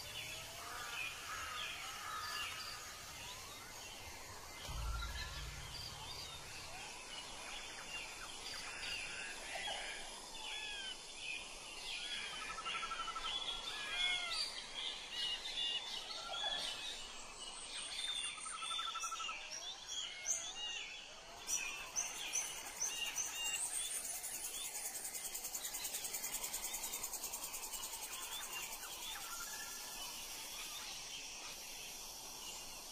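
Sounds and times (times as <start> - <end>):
forest birds singing: 0.0 - 32.9.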